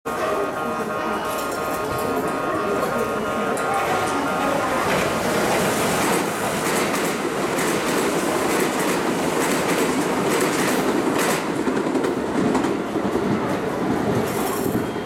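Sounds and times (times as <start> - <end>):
train rolling rumble: 0.1 - 15.0.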